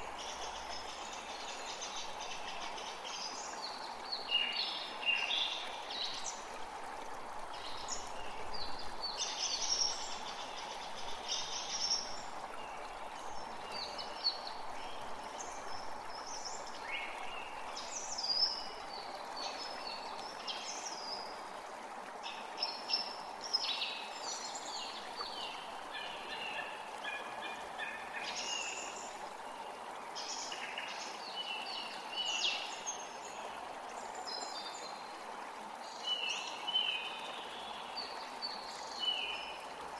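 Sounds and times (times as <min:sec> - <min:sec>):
creek rushing: 0:00.0 - 0:39.9.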